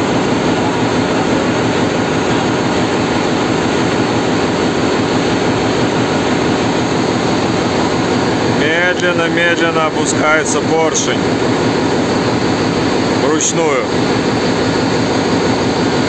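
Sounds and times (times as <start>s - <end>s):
loud engine room machinery: 0.0s - 16.0s.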